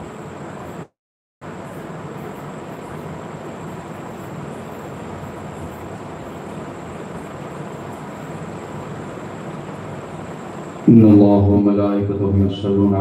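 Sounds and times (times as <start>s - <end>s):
faint high whine: 0.0s - 13.0s
public-address system hiss and rumble: 0.0s - 13.0s.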